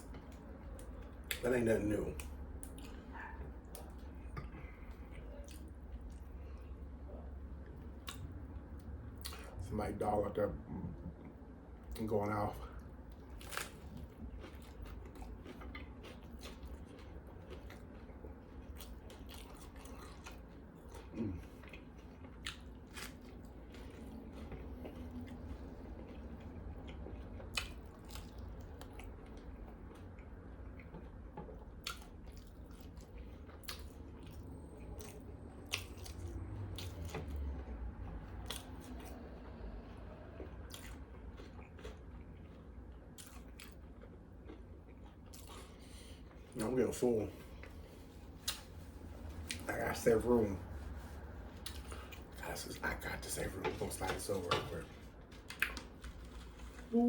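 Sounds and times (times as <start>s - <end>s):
person chewing sandwich: 0.0s - 9.6s, 10.6s - 57.0s
low steady hum: 0.0s - 57.0s.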